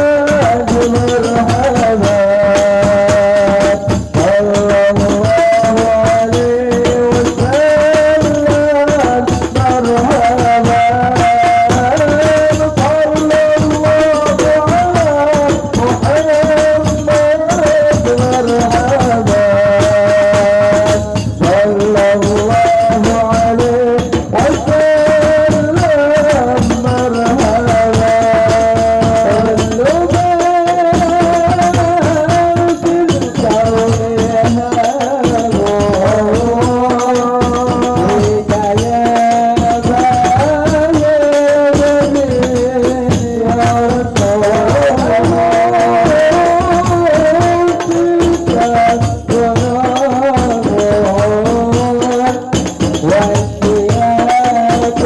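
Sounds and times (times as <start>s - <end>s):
frame drums beaten by hand: 0.0s - 55.0s
person singing into microphone: 0.0s - 55.0s.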